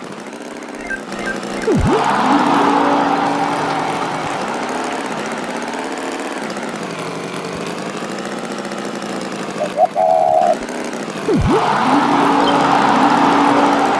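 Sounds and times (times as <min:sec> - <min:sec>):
cartoon tractor engine: 0:00.0 - 0:13.9.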